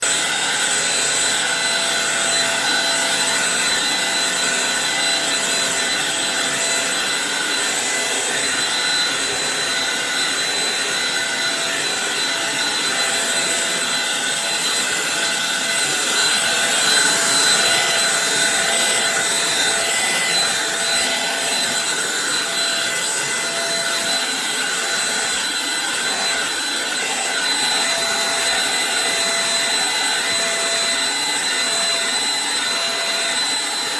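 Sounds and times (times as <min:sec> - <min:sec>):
stick vacuum cleaner running: 0:00.0 - 0:33.9.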